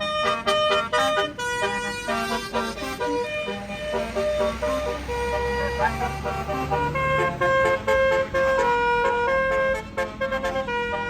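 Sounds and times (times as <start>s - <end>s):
bus horn playing a quick tune: 0.0s - 11.0s
low engine rumble: 0.0s - 11.0s.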